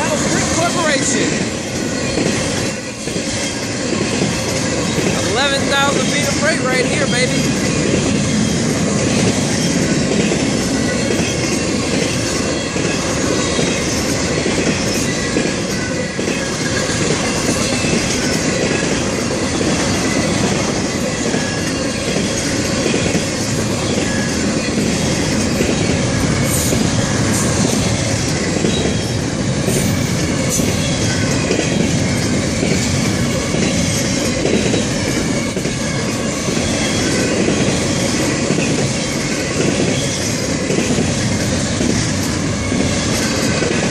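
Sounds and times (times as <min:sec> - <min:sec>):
freight train rolling past: 0:00.0 - 0:43.9.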